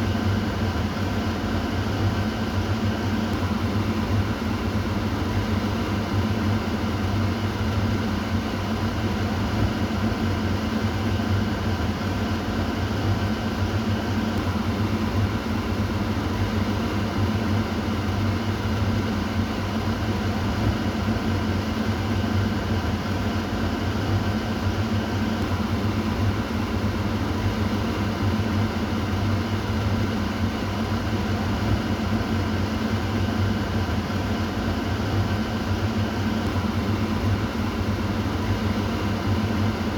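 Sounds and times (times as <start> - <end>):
kitchen exhaust fan humming: 0.0 - 39.9.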